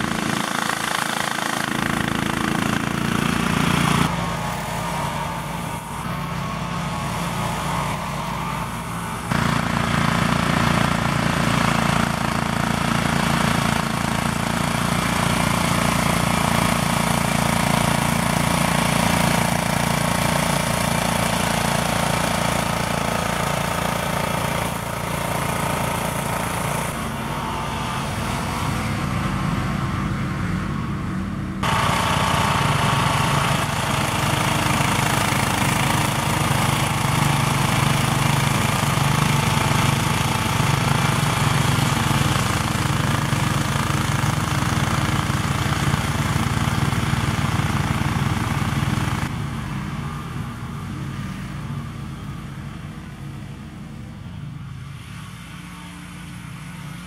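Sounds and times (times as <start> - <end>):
atv mower engine running under load: 0.0 - 57.0.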